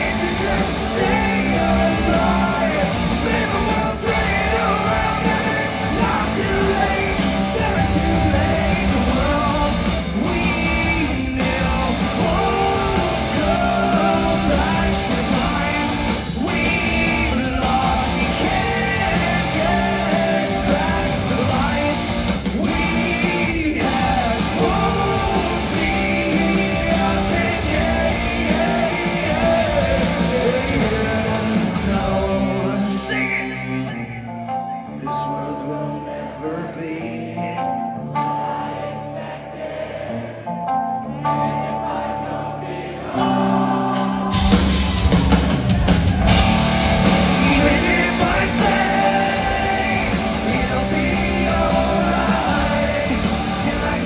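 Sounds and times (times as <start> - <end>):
man singing: 0.0 - 39.3, 46.3 - 54.0
live rock band playing: 0.0 - 54.0.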